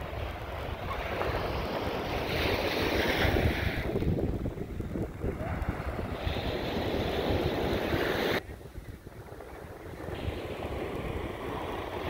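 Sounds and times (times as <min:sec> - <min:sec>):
surf on a beach: 0:00.0 - 0:12.0
wind buffeting microphone: 0:00.0 - 0:12.0.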